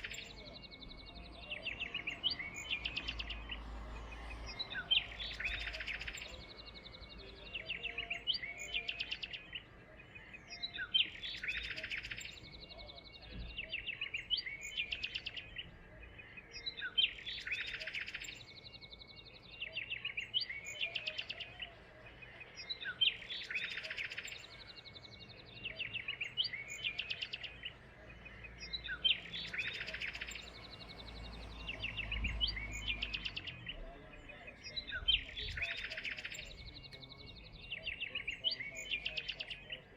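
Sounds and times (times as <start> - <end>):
bird chirps: 0.0 - 39.9
songbird trilling: 0.0 - 39.9.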